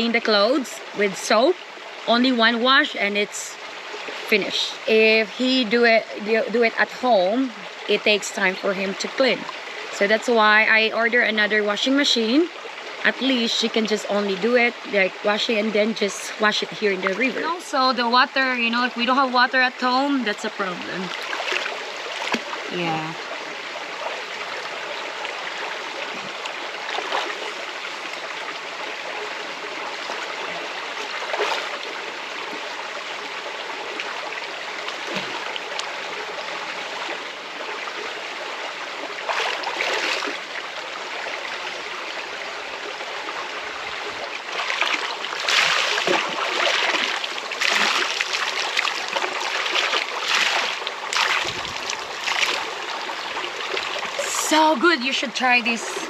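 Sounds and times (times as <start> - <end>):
river water flowing: 0.0 - 56.0
water splashing: 0.0 - 56.0.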